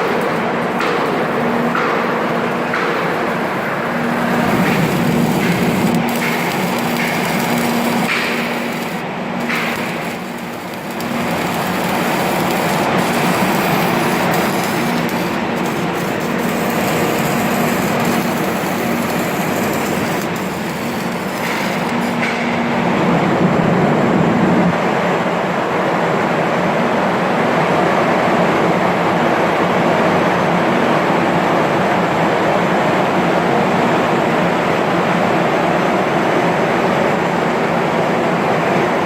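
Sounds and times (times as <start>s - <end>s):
loud industrial noise: 0.0s - 39.0s.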